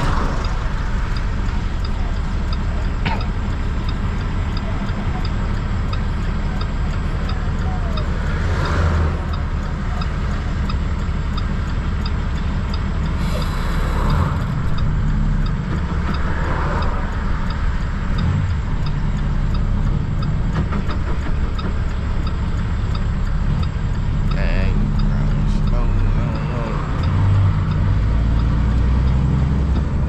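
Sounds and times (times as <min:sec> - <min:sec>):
diesel truck engine droning: 0:00.0 - 0:30.0
faint regular ticking: 0:00.0 - 0:30.0.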